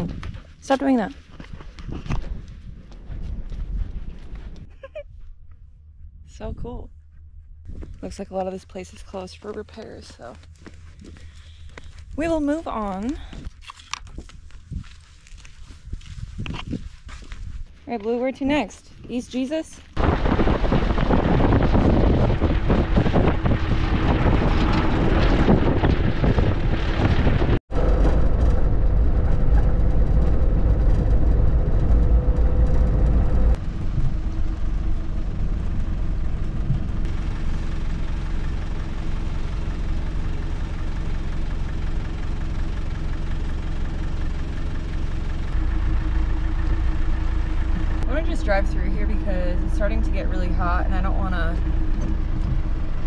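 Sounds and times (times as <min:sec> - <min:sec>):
truck engine rumble: 0:00.0 - 0:53.0.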